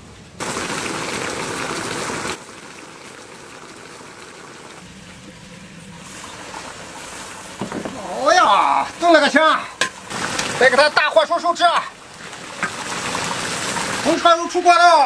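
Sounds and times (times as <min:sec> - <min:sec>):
broth boiling and simmering: 0:00.0 - 0:15.0.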